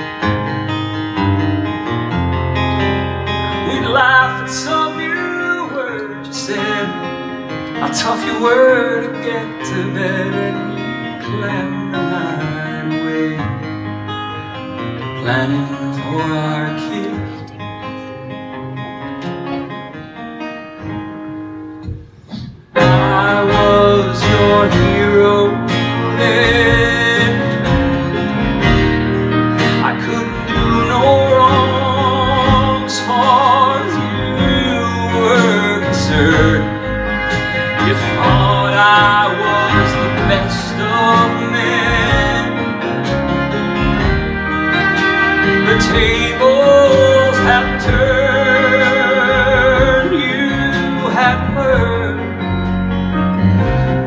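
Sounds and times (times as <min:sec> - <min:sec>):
folk-pop band playing: 0:00.0 - 0:54.0
man singing: 0:03.5 - 0:13.9, 0:15.0 - 0:17.7, 0:22.4 - 0:52.7.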